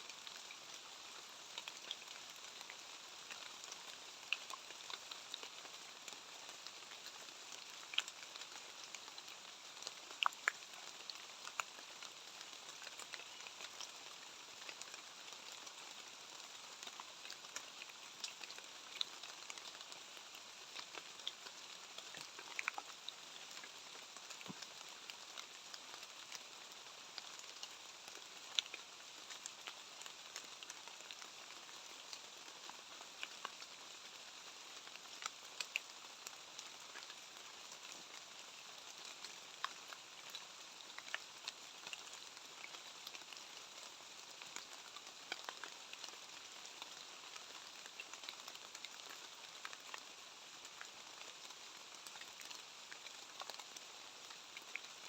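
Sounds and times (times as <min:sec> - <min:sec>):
light rain pattering: 0:00.0 - 0:55.0.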